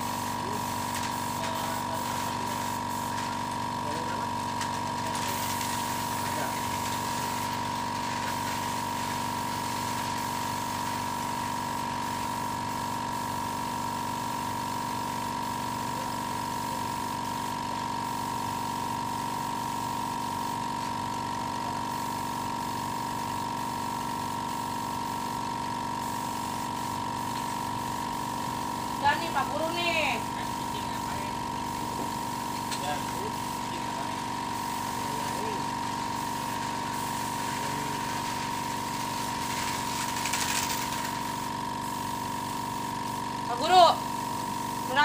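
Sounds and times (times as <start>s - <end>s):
small electric motor humming: 0.0s - 45.0s.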